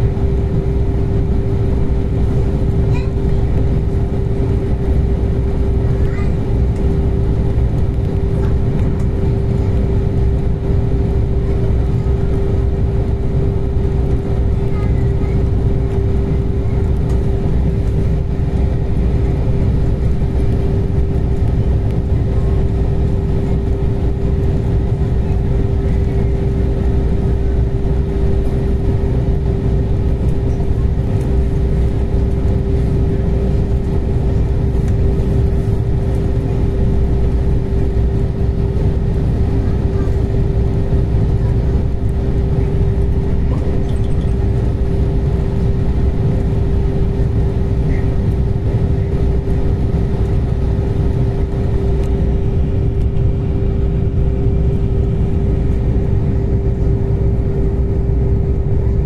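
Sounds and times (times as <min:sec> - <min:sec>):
constant train whine: 0:00.0 - 0:59.0
train interior rumble: 0:00.0 - 0:59.0.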